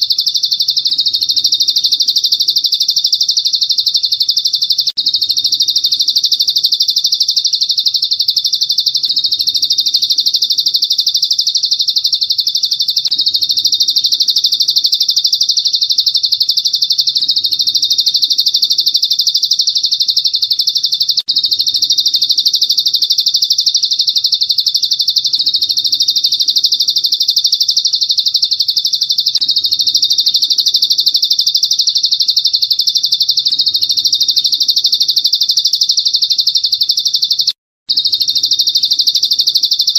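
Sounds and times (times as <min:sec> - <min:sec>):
bird chirping trill: 0:00.0 - 0:39.9.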